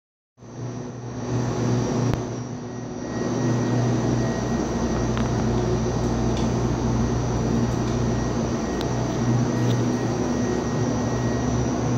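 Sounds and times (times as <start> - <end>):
mechanical drone with whine: 0.4 - 11.9.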